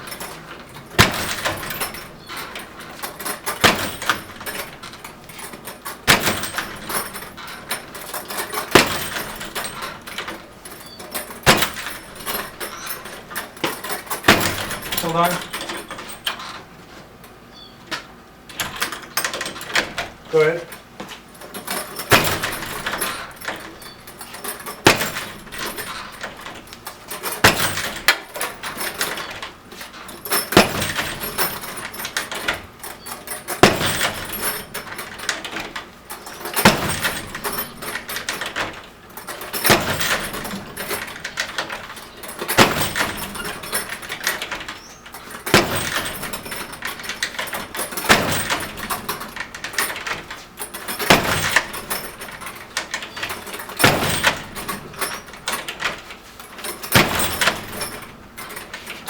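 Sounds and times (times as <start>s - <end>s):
heavy bag thudding on door: 0.0s - 16.6s, 21.0s - 59.0s
door hardware rattling: 0.0s - 17.4s, 18.4s - 59.0s.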